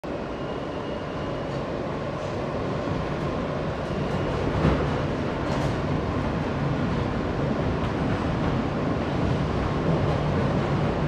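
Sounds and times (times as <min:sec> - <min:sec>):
subway car rumbling on track: 0:00.0 - 0:11.0.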